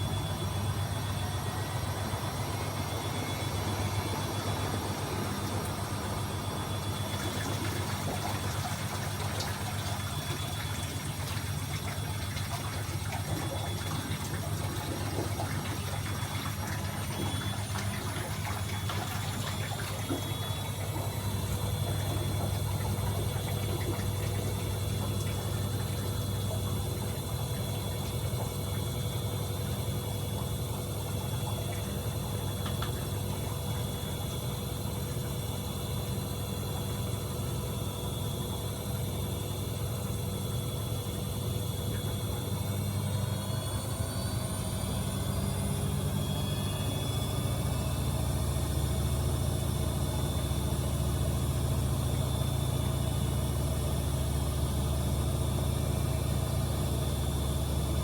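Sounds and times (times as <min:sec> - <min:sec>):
washing machine motor whine: 0:00.0 - 0:58.0
washing machine pump hum: 0:00.0 - 0:58.0
water in washing machine: 0:00.0 - 0:58.0.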